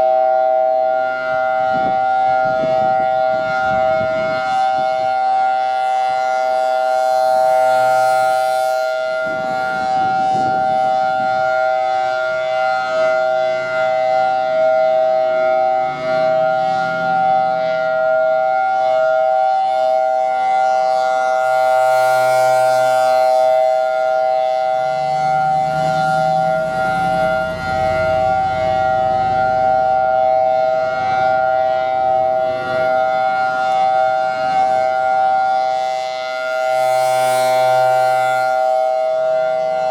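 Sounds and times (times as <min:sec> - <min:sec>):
warning siren steady chord: 0:00.0 - 0:39.9.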